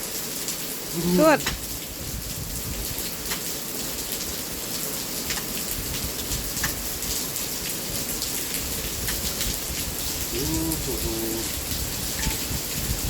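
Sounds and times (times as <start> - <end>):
raindrops ticking on surface: 0.0 - 13.0
steady rain hiss: 0.0 - 13.0.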